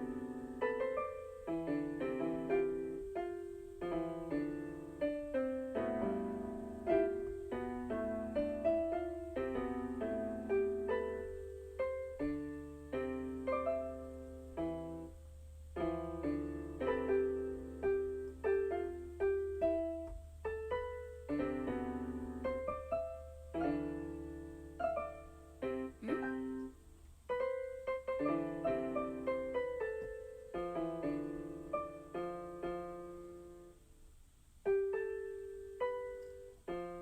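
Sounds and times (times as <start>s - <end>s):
gentle piano music: 0.0s - 33.9s, 34.6s - 37.0s.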